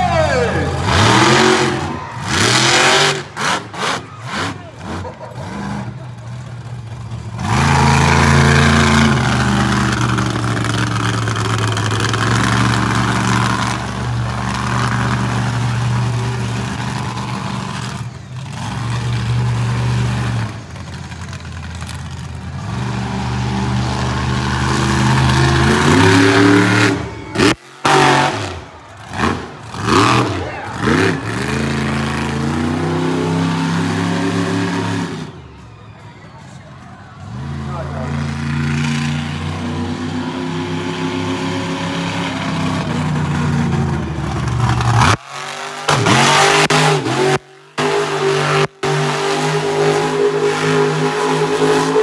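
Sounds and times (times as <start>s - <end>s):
truck engine revving: 0.0s - 35.6s, 37.1s - 52.0s.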